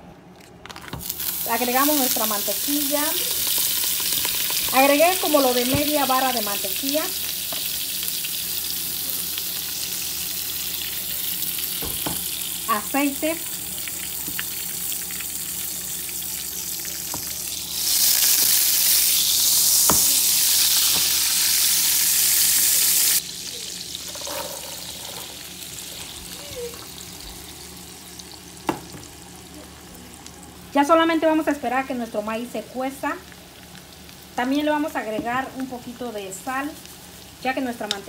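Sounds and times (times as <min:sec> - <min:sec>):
butter sizzling in frying pan: 0:00.9 - 0:30.2, 0:31.0 - 0:38.0.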